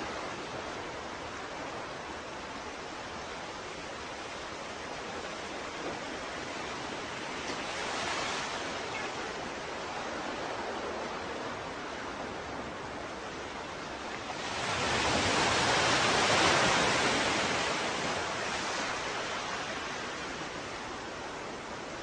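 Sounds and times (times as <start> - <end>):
ocean surf washing: 0.0 - 22.0.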